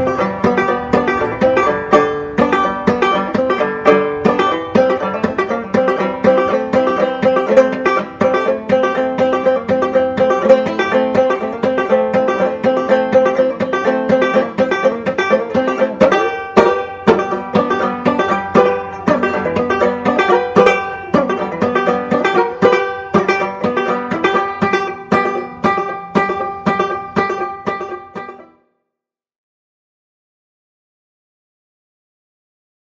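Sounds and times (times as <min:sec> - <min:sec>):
banjo plucking and strumming: 0:00.0 - 0:28.6.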